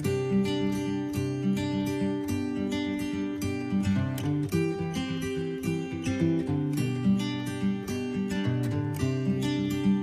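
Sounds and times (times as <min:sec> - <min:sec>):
acoustic guitar playing: 0:00.0 - 0:10.0.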